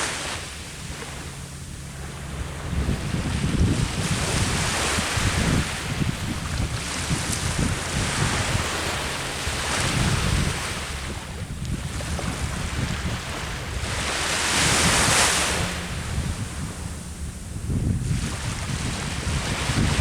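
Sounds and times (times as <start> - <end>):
sea waves breaking on shore: 0.0 - 20.0
wind buffeting microphone: 0.0 - 20.0.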